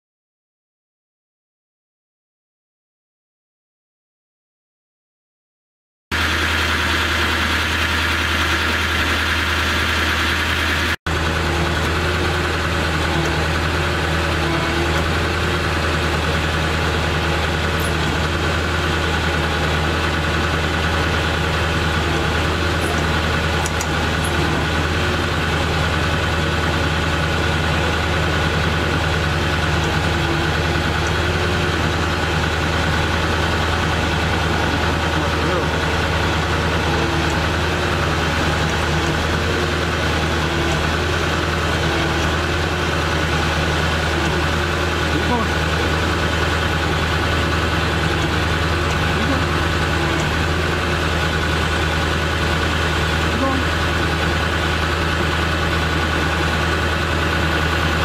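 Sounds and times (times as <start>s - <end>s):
diesel engine idling: 6.1s - 58.0s.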